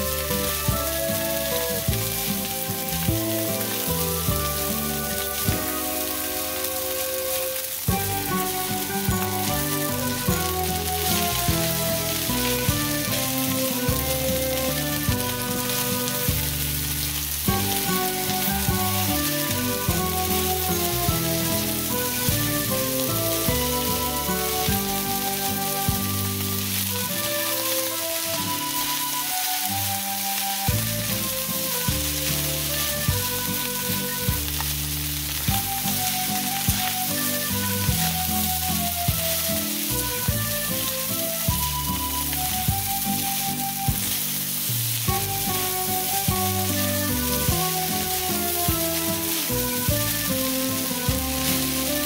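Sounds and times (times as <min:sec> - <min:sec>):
background music: 0:00.0 - 0:52.0
rice sizzling in a pan: 0:00.0 - 0:52.0.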